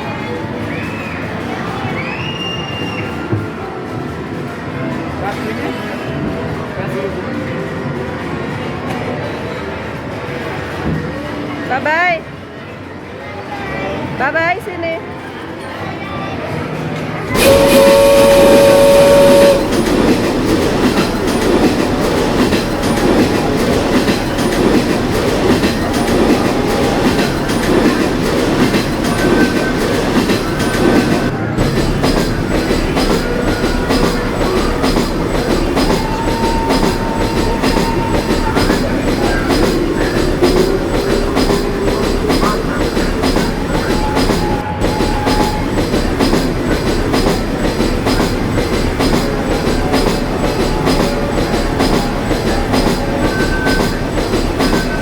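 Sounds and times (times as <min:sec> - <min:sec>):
amusement train wheels rattling: 0:00.0 - 0:55.0.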